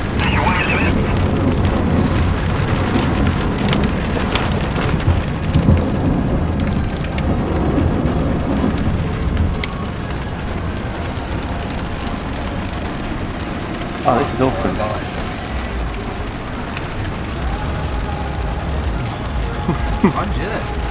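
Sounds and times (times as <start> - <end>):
rain on car roof: 0.0 - 20.9
road noise rumble: 0.0 - 20.9.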